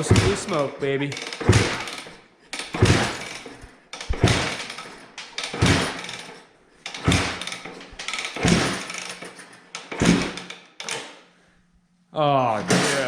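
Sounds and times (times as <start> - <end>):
dirt bike kick-start turning over: 0.0 - 11.2, 12.5 - 13.0.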